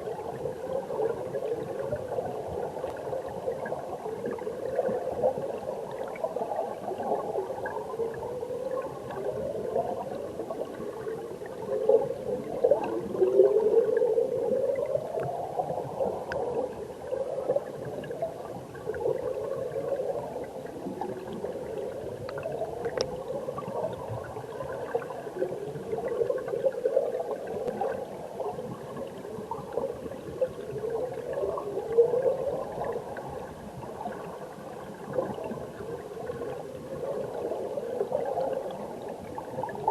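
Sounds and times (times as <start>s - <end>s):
underwater stream burbling: 0.0s - 39.9s.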